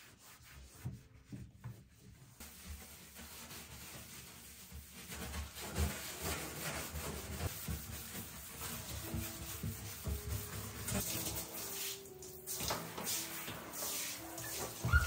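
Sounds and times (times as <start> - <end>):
brush scrubbing bathtub: 0.0 - 15.0.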